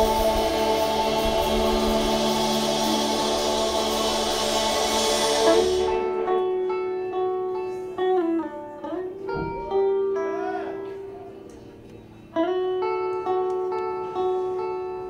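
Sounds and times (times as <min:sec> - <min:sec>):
clean electric guitar: 0:00.0 - 0:15.0.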